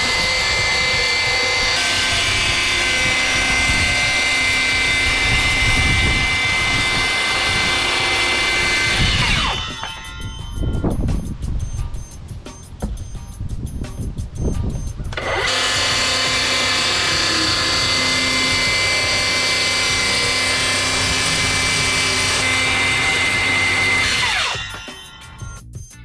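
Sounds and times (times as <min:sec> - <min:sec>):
power tool motor running: 0:00.0 - 0:10.6, 0:15.1 - 0:25.6
background music: 0:00.0 - 0:26.0.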